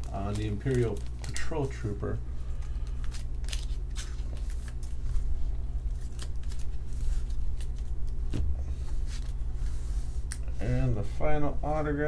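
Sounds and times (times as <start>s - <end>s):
plastic sleeve rustling: 0.0s - 1.8s, 2.4s - 10.4s
steady low hum: 0.0s - 12.0s.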